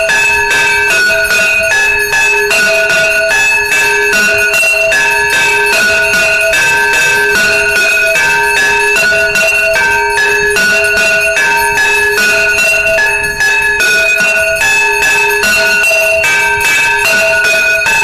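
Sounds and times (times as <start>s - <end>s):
rapid metal clanging: 0.0s - 18.0s
temple bells ringing: 0.0s - 18.0s.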